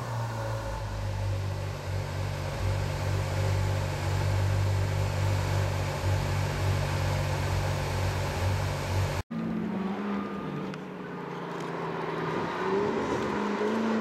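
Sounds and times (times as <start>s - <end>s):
car engine running steadily: 0.0s - 11.8s.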